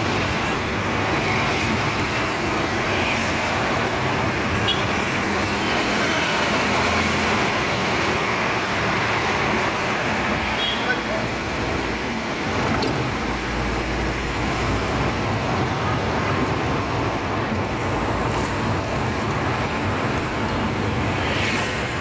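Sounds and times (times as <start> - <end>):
car driving in traffic: 0.0 - 22.0.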